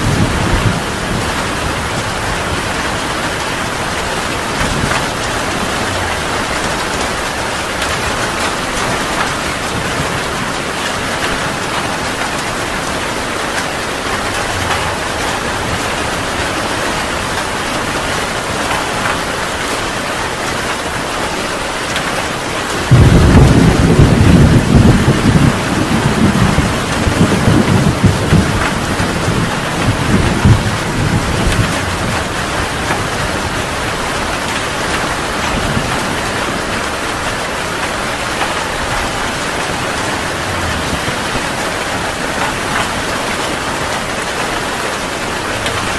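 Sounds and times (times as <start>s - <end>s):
thunder rumbling: 0.0s - 19.7s, 22.6s - 45.9s
heavy rain falling: 0.0s - 45.9s.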